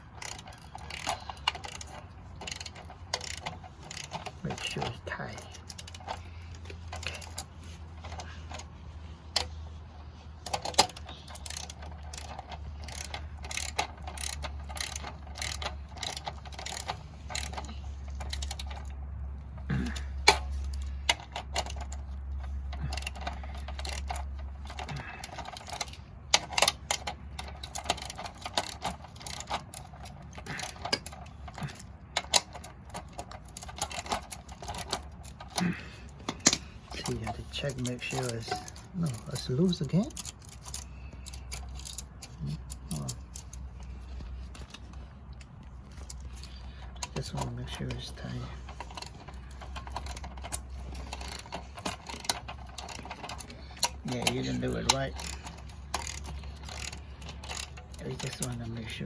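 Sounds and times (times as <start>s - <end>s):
low steady hum: 0.0s - 59.0s
metallic clicks and rattles of tools: 0.0s - 59.0s.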